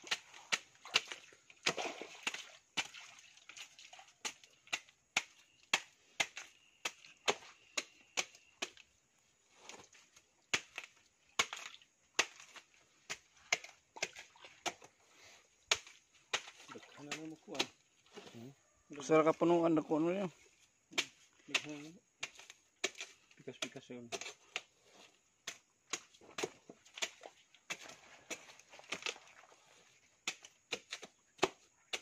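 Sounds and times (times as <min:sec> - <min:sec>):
machete chopping wet plant stump: 0:00.0 - 0:08.9, 0:09.6 - 0:18.3, 0:20.9 - 0:29.5, 0:30.2 - 0:32.0.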